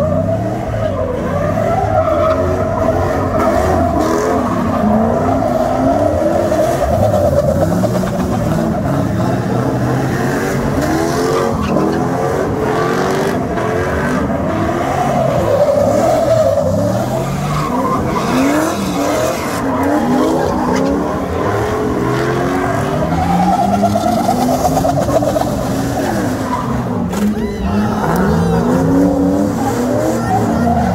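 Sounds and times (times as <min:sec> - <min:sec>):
car engines revving: 0:00.0 - 0:30.9
tyres squealing on asphalt: 0:00.0 - 0:30.9.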